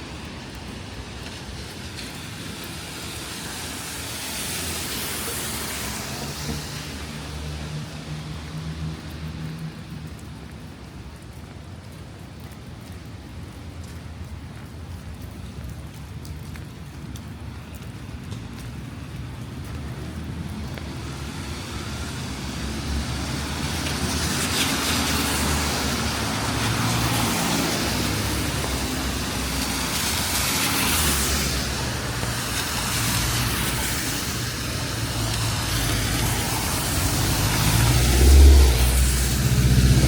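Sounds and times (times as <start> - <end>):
rain falling: 0.0 - 40.0
tyres hissing on wet pavement: 0.0 - 40.0.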